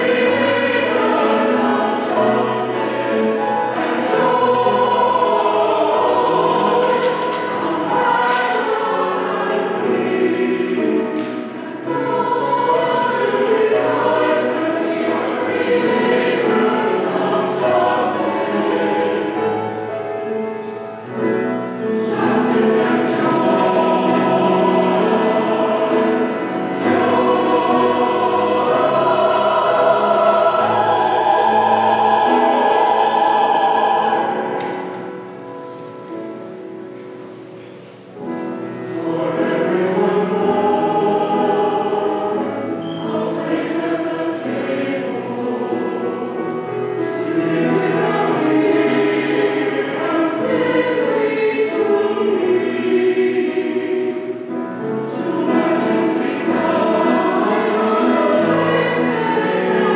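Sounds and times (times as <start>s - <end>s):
church choir singing: 0.0s - 59.9s.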